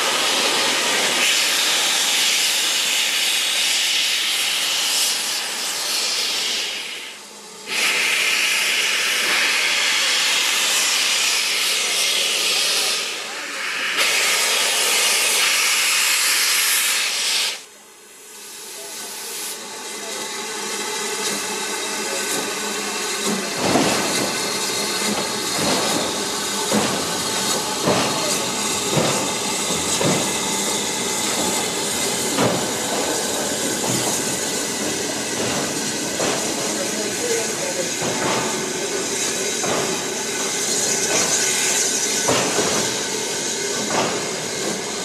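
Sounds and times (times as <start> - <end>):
loud steam hiss: 0.0 - 45.0
steam locomotive exhaust beats: 0.0 - 45.0.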